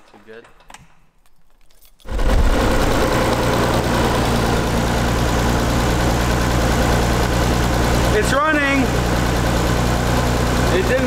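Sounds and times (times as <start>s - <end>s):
car engine idling: 2.1s - 11.0s.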